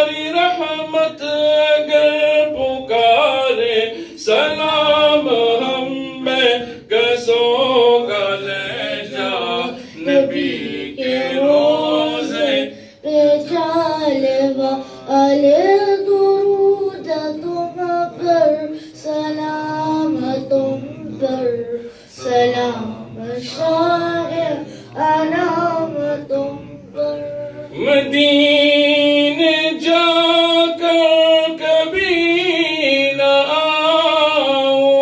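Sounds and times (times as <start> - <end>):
boy singing into a microphone: 0.0 - 35.0.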